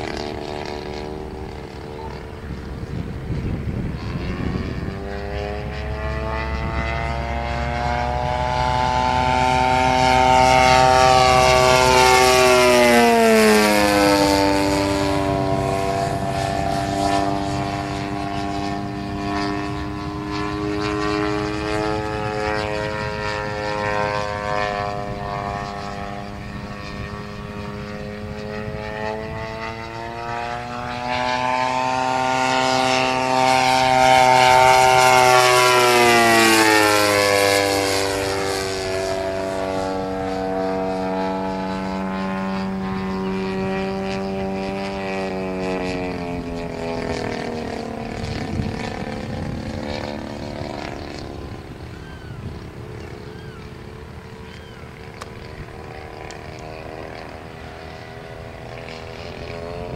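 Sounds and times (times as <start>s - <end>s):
model plane engine droning: 0.0s - 59.9s.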